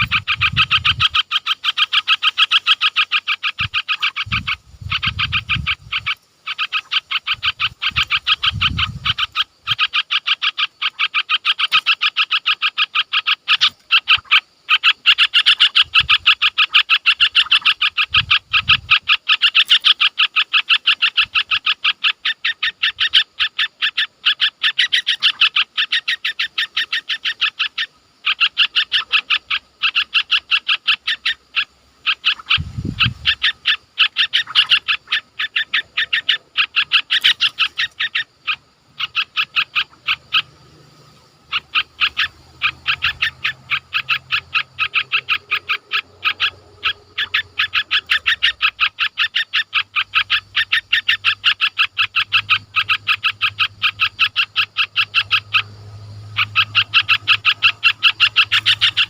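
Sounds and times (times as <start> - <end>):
animal chirping: 0.0 - 59.0.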